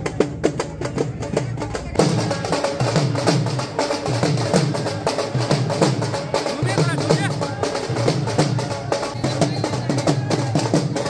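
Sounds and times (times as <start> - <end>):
dhol drums beaten with sticks: 0.0 - 11.0.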